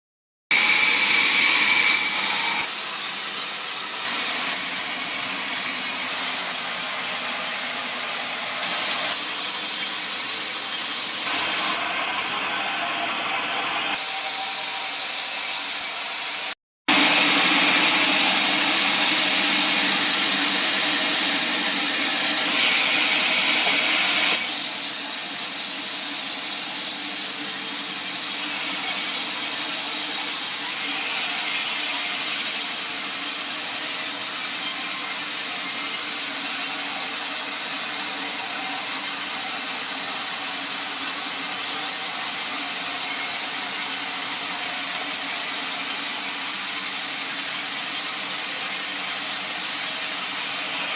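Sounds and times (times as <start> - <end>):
sawmill saw cutting log: 0.5 - 2.7, 3.5 - 50.9.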